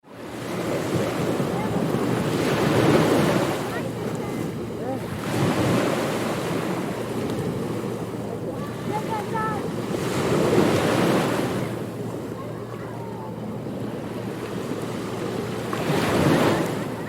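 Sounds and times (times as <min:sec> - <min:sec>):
ocean surf washing onto beach: 0:00.1 - 0:17.0.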